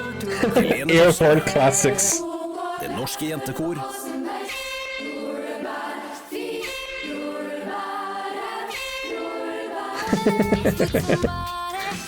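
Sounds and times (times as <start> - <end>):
girls' choir singing a cappella: 0.0 - 11.9.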